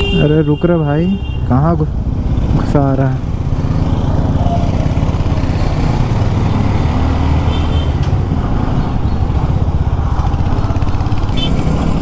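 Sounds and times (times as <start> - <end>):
motorcycle engine rumbling: 0.0 - 12.0
road and traffic noise: 0.0 - 12.0.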